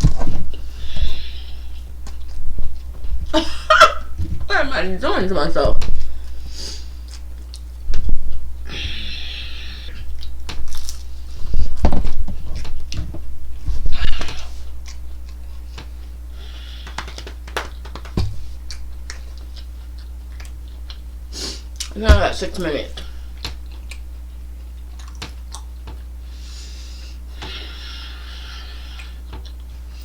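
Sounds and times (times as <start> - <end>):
person chewing food: 0.0 - 3.3, 5.8 - 22.0, 23.0 - 30.0
low electrical hum: 0.0 - 30.0.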